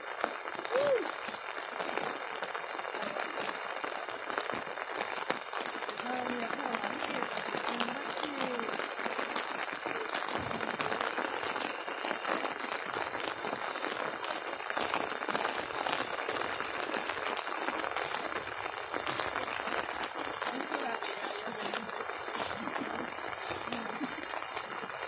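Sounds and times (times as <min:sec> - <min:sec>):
rain hissing: 0:00.0 - 0:25.0
raindrop ticks: 0:00.7 - 0:25.0.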